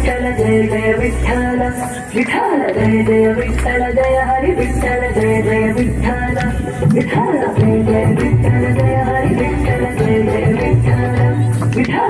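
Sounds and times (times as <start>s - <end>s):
person singing devotional song: 0.0s - 12.0s
steady percussion beat: 2.1s - 11.9s.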